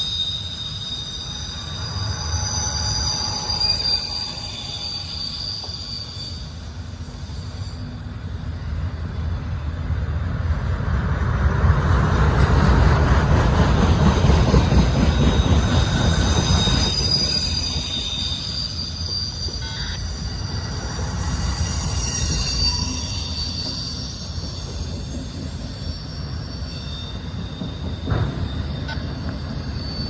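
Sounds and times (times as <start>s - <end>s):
high-pitched wheel squeal: 0.0s - 9.4s, 14.5s - 30.0s
steel wheels rumbling on rail: 0.0s - 30.0s.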